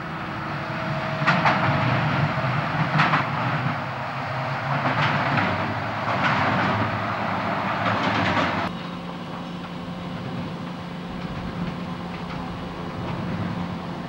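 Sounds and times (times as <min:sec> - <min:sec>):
distant diesel locomotive drone: 0:00.0 - 0:14.0.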